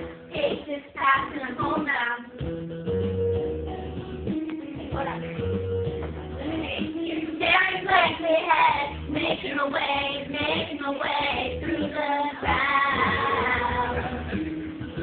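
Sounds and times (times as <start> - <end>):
low instrumental notes: 0.0 - 15.0.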